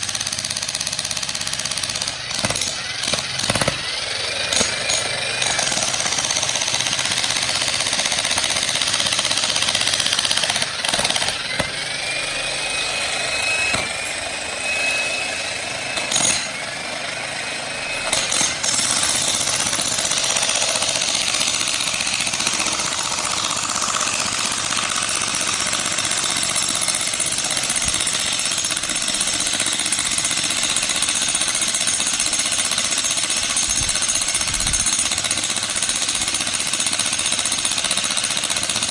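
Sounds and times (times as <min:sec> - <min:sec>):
jackhammer breaking rock: 0:00.0 - 0:38.9.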